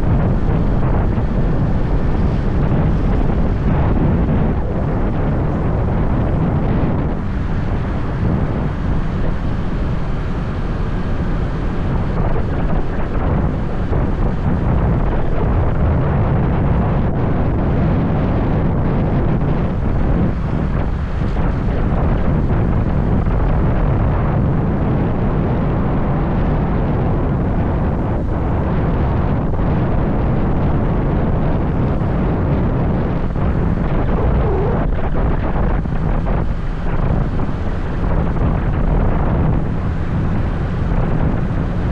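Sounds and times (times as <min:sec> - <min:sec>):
motorbike running: 0:00.0 - 0:41.9
wind buffeting microphone: 0:00.0 - 0:41.9.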